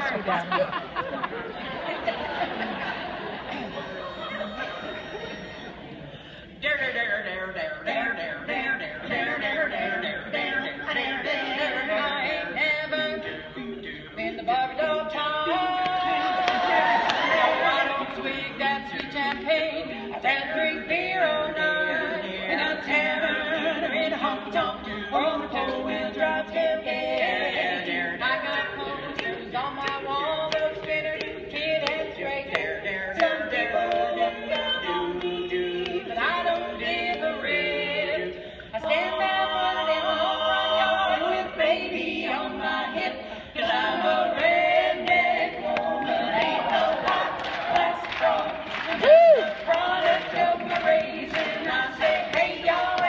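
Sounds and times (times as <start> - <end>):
women's quartet singing a cappella: 0.0 - 53.0.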